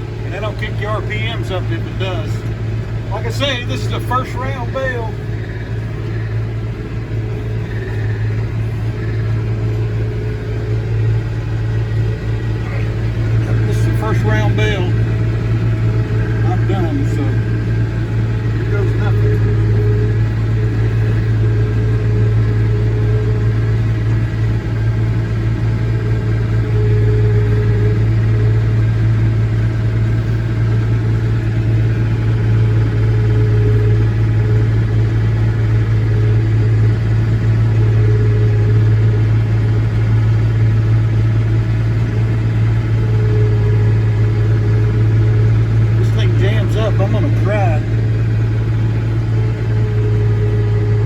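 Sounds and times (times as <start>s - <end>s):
baler hum: 0.0s - 51.0s
tractor diesel engine: 0.0s - 51.0s.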